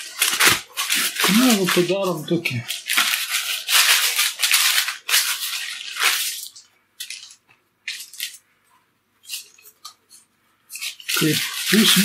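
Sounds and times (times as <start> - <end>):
baking paper rustling: 0.0 - 8.4, 9.2 - 12.0.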